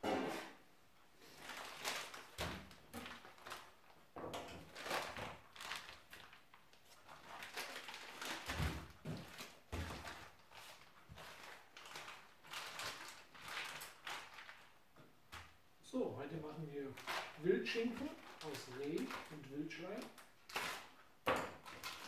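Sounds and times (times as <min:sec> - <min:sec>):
plastic bags crinkling: 0:01.2 - 0:14.9, 0:16.8 - 0:22.0.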